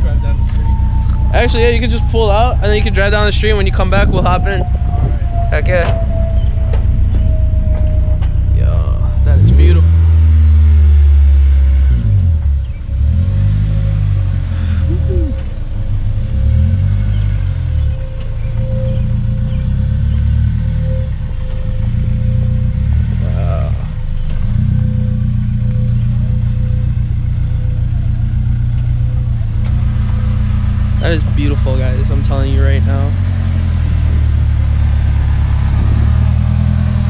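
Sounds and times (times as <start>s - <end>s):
car engine revving and idling: 0.0s - 37.0s.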